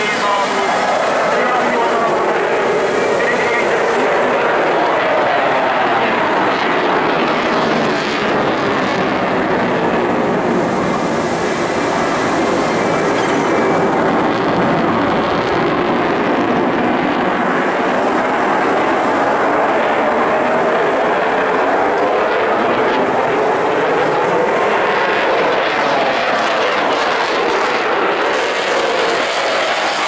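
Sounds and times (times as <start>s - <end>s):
jet roar: 0.0s - 30.0s.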